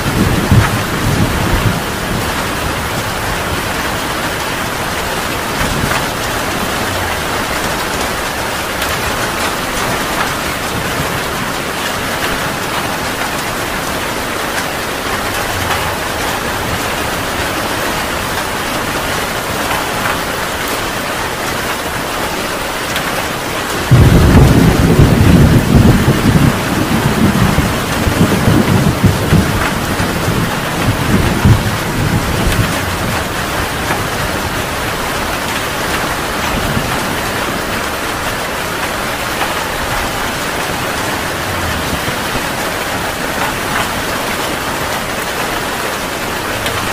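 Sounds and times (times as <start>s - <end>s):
loud thunderclap rumbling: 0.0s - 20.2s, 23.6s - 46.9s
heavy rain falling: 0.0s - 46.9s.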